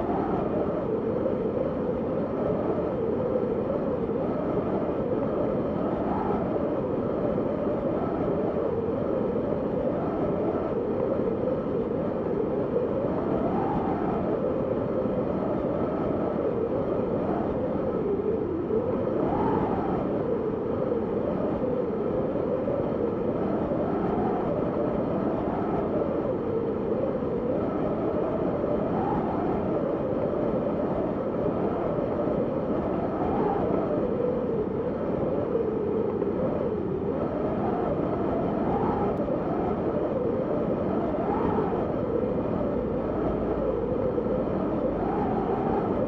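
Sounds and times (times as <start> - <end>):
moaning wind tone: 0.0 - 46.0
wind blowing hard: 0.0 - 46.0.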